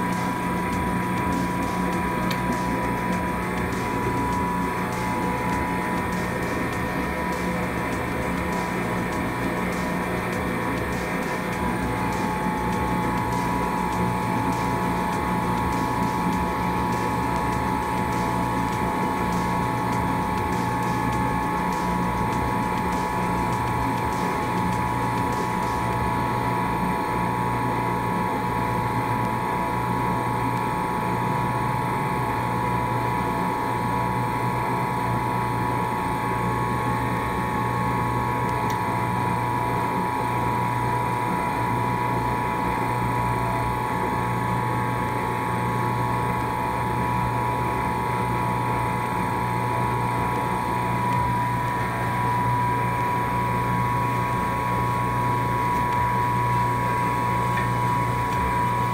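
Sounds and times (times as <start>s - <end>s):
dough mixer motor hum: 0.0s - 58.9s.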